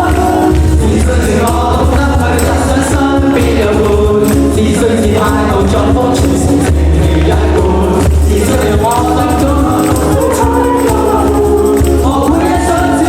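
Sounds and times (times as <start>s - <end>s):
live rock band: 0.0s - 13.0s
voices singing along: 0.0s - 13.0s.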